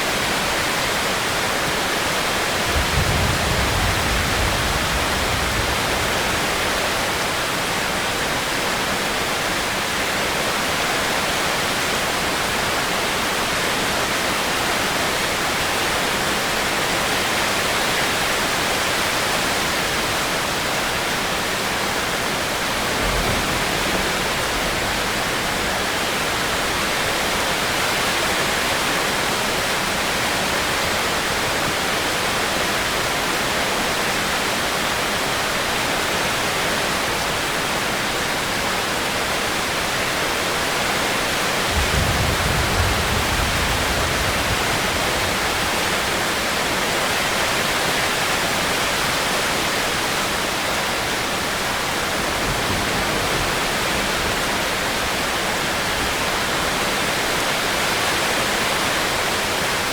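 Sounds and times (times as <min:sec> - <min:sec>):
heavy rain downpour: 0:00.0 - 0:59.9.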